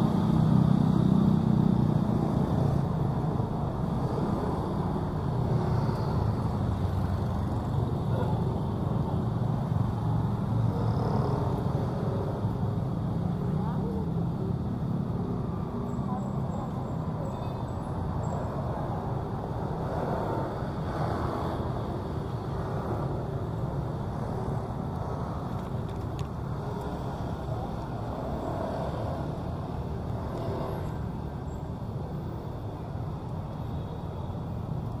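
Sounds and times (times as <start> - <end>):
street traffic noise: 0.0 - 35.0.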